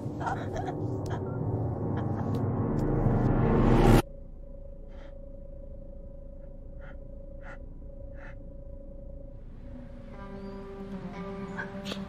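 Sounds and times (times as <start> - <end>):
film score sustained low notes: 0.0 - 12.0.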